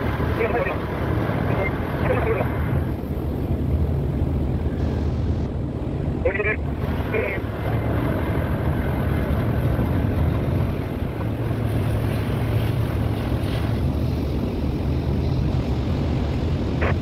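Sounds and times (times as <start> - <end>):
engine rumbling: 0.0 - 17.0
wind noise on microphone: 0.0 - 17.0.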